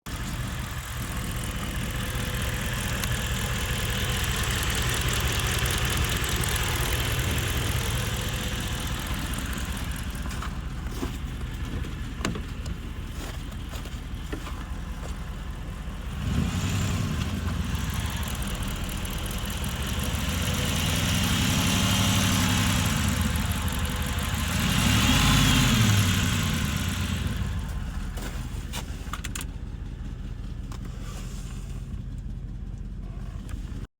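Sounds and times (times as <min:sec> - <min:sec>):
car engine idling and revving: 0:00.0 - 0:33.9
engine ticking: 0:00.0 - 0:33.9.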